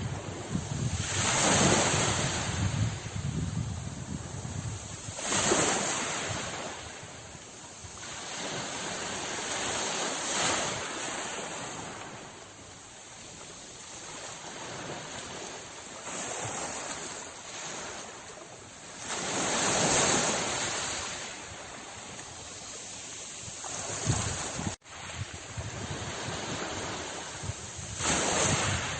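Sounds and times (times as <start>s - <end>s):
sea waves washing in: 0.0s - 28.9s.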